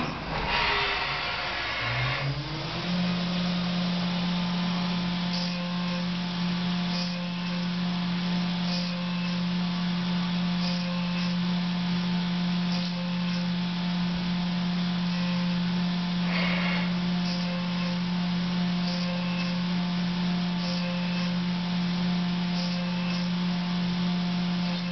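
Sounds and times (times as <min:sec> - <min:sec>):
high-pitched cutting noise: 0:00.0 - 0:24.9
milling machine humming: 0:00.0 - 0:24.9.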